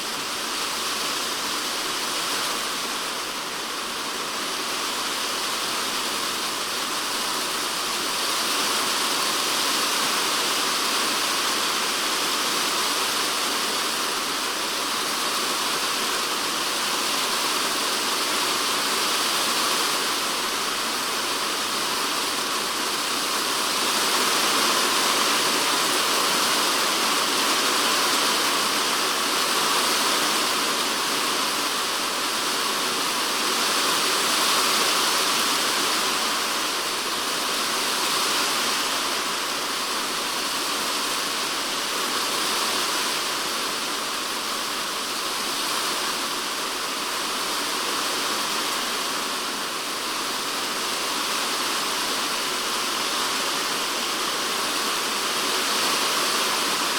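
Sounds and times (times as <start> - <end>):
heavy rain on plastic roof: 0.0 - 56.9.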